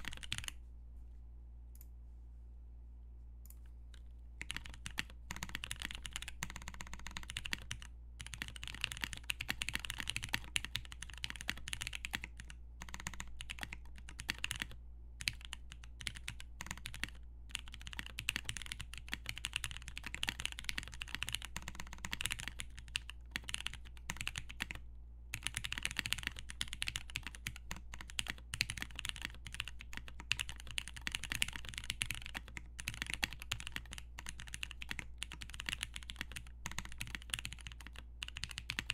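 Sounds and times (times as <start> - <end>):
mechanical keyboard typing: 0.0 - 0.5, 4.4 - 24.8, 25.4 - 38.9.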